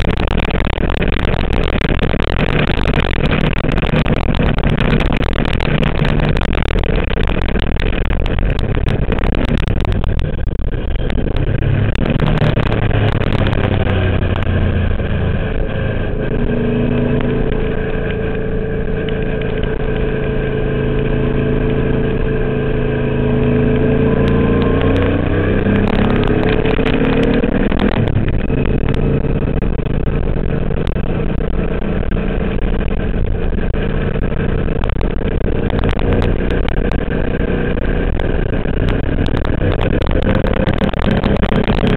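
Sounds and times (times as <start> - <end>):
race car engine running hard: 0.0 - 41.9.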